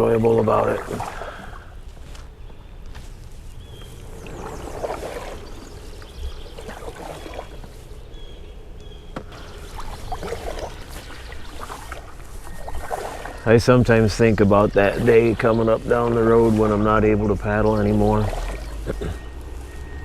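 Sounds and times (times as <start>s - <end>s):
paddle strokes in water: 0.1s - 2.3s, 2.9s - 20.0s.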